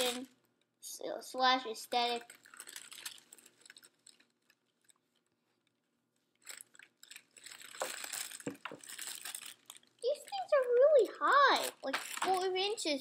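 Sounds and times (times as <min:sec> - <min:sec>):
packaging crinkling and rustling: 0:01.9 - 0:12.8.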